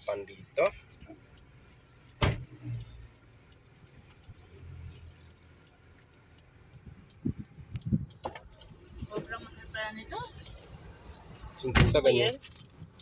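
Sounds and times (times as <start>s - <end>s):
faint ticking: 0.0s - 11.7s
low vehicle rumble: 0.0s - 13.0s.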